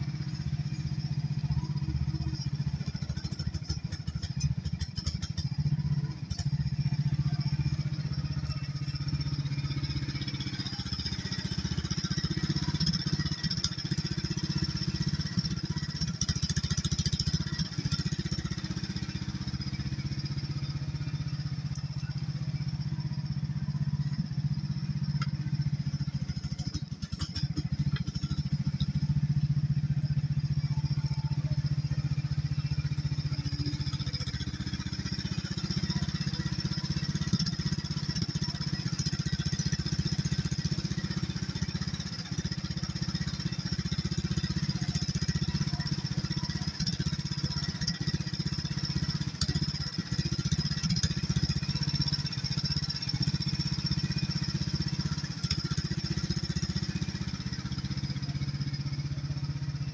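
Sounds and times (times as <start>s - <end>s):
excavator engine running: 0.0s - 59.9s.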